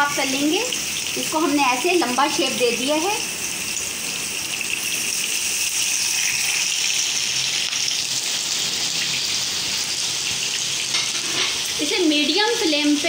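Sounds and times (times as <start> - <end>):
patties sizzling in hot oil: 0.0 - 13.0.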